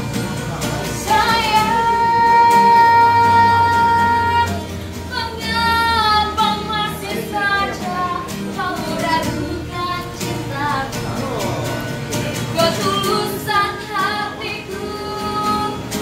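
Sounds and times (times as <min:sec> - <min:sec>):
woman singing: 0:00.7 - 0:16.0.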